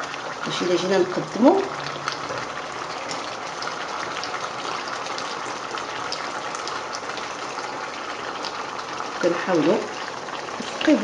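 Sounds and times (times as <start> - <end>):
sauce simmering in a pan: 0.0 - 11.0.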